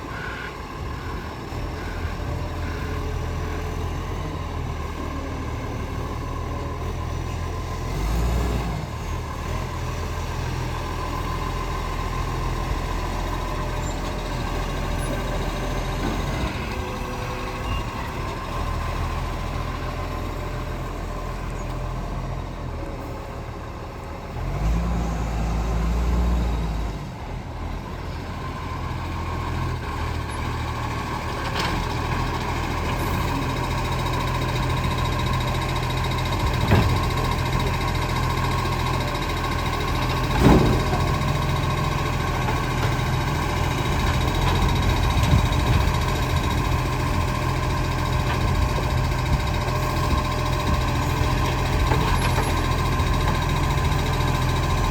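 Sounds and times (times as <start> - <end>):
garbage truck diesel engine: 0.0 - 54.9.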